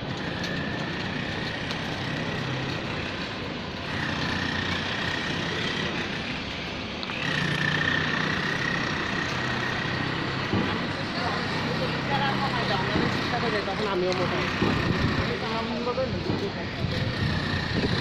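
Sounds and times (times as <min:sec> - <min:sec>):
vehicle engine whining: 0:00.0 - 0:18.0.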